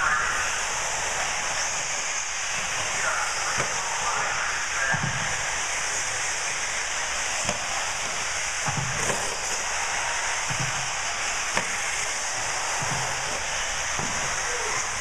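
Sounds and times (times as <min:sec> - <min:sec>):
rc car motors hissing: 0:00.0 - 0:15.0.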